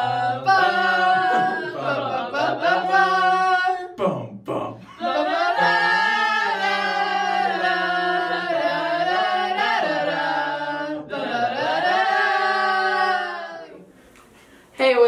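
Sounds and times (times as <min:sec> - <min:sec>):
young voices singing a cappella: 0:00.0 - 0:14.0.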